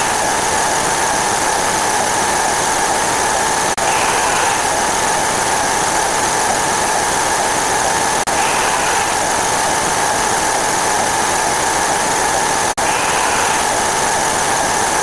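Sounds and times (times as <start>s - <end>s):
dense steady noise: 0.0s - 15.0s
faint steady tones: 0.0s - 15.0s.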